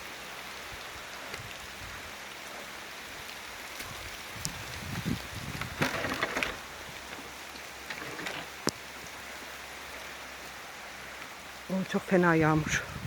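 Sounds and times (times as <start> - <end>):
heavy rain: 0.0 - 13.0
rustles: 0.0 - 13.0.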